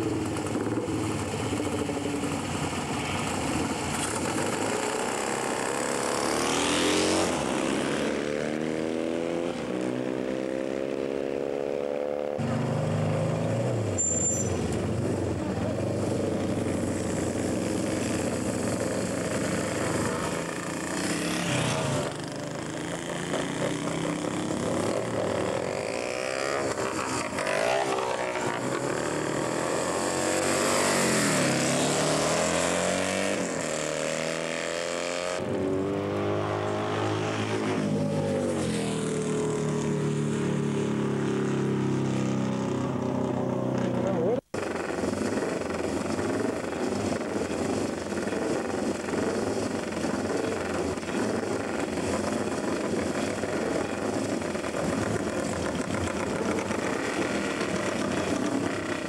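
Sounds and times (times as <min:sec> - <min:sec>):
racing motorcycle engines: 0:00.0 - 0:59.0.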